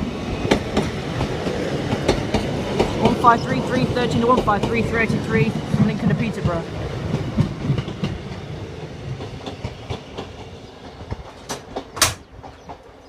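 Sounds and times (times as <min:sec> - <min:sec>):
train rumbling past: 0:00.0 - 0:13.0
train wheels clicking on rail joints: 0:00.1 - 0:13.0.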